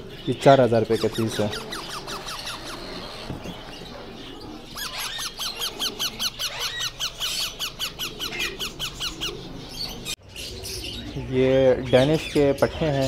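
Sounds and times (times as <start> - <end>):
parakeet chicks squeaky calls: 0.0 - 13.0.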